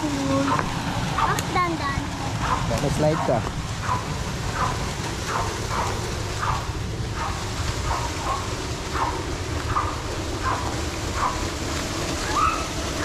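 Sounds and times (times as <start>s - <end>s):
dog barking: 0.4s - 1.4s, 2.4s - 11.4s, 12.2s - 12.7s.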